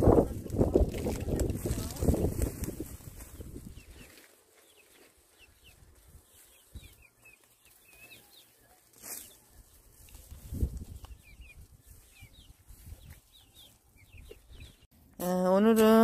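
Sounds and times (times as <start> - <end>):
small birds chirping: 0.5 - 14.9.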